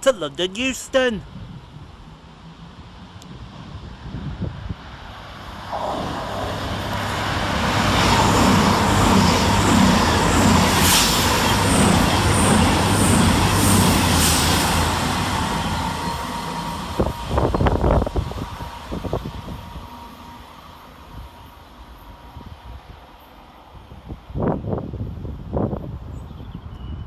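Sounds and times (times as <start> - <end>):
train wheel and rail noise: 0.0 - 27.0.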